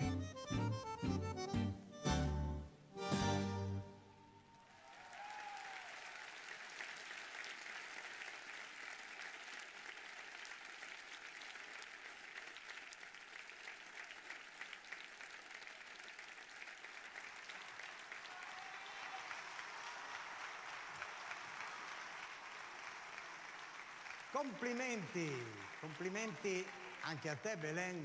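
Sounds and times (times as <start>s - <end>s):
large audience applauding: 4.1s - 28.0s.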